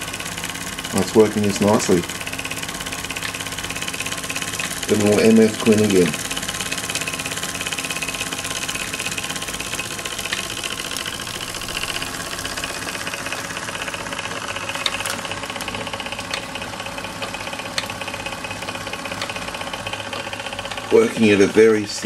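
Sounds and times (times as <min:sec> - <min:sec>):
toy steam engine running: 0:00.0 - 0:22.0.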